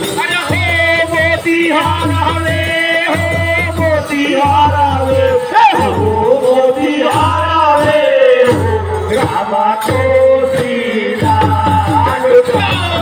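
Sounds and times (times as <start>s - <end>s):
frame drums beating: 0.0s - 13.0s
voices singing: 0.0s - 13.0s.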